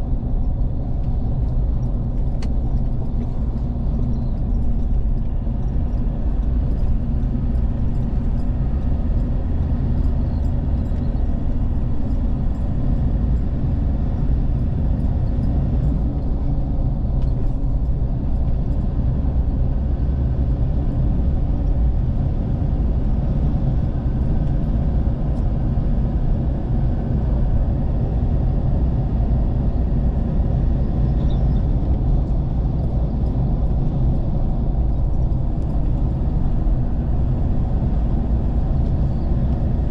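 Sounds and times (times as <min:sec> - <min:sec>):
vehicle driving on road: 0:00.0 - 0:39.9.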